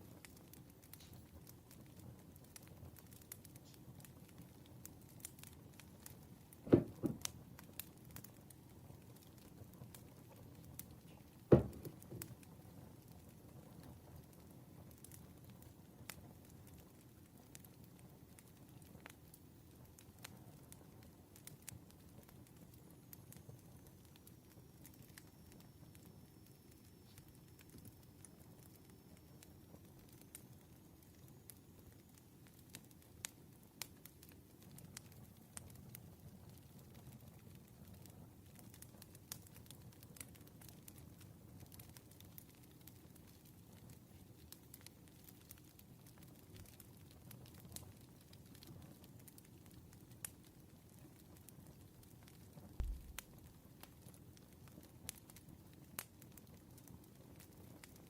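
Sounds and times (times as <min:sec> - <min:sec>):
campfire crackling: 0:00.0 - 0:58.0
hiss of burning wood: 0:00.0 - 0:58.0.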